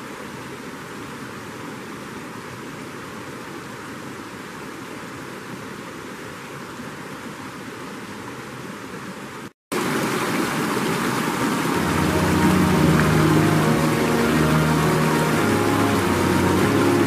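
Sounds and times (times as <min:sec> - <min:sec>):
creek water rushing over boulders: 0:00.0 - 0:17.0.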